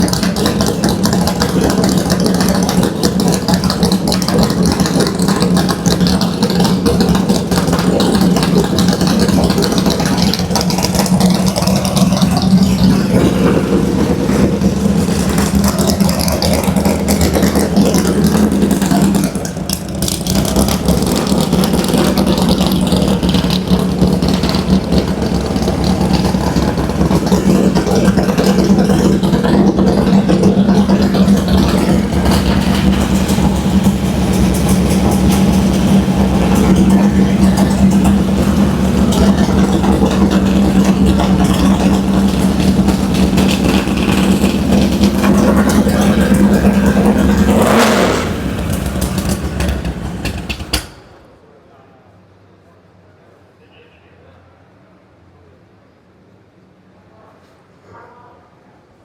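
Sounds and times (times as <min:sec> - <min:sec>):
car engine idling: 0:00.0 - 0:51.3.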